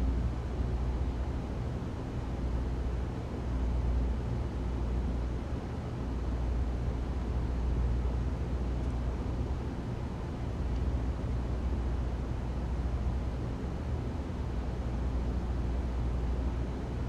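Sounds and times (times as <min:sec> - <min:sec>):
faint hum: 0:00.0 - 0:17.0
ventilation airy noise: 0:00.0 - 0:17.0.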